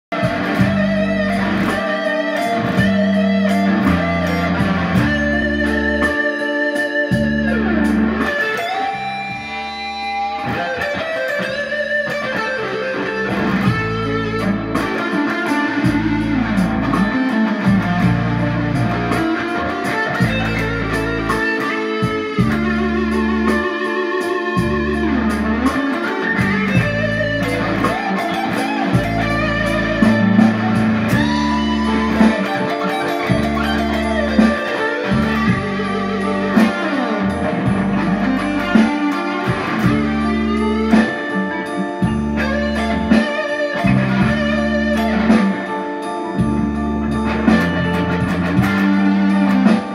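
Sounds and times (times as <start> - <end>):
backing track with bass: 0.0 - 49.9
electric guitar blues lead: 0.0 - 49.9.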